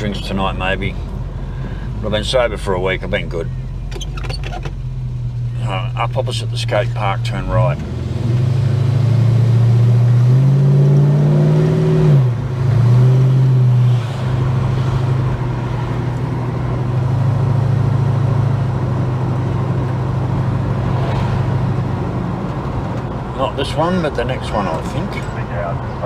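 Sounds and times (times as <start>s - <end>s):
car engine revving: 4.8s - 26.0s.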